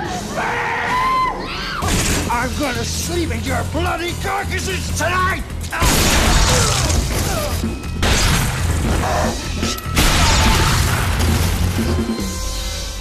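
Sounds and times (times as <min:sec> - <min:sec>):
dramatic score music: 0:00.0 - 0:13.0.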